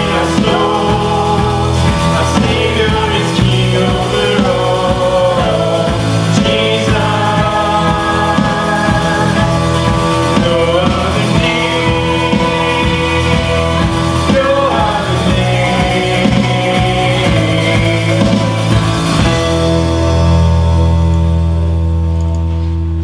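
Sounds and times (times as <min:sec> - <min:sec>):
steady drum beat: 0:00.0 - 0:20.5
worship band music: 0:00.0 - 0:23.0.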